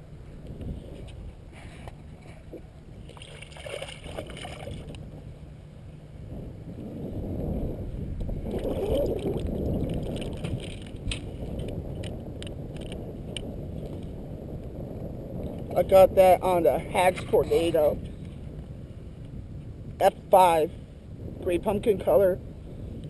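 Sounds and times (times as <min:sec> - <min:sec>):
low rumble of wind: 0:00.0 - 0:23.0
water outdoors: 0:00.0 - 0:23.0.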